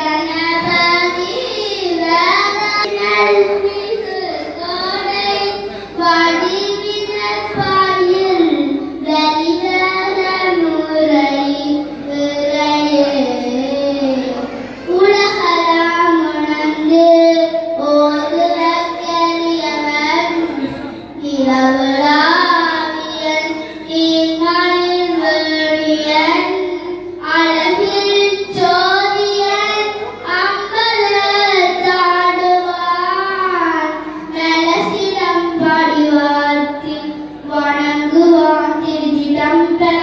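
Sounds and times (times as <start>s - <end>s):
girl singing devotional song: 0.0s - 40.0s.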